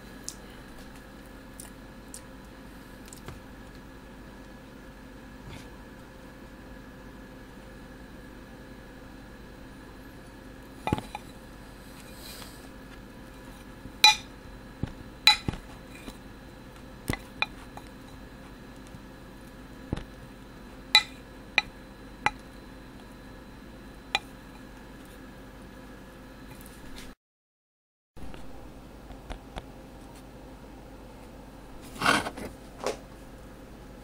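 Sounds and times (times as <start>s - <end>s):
faint steady hum: 0.0s - 27.2s, 28.2s - 34.0s.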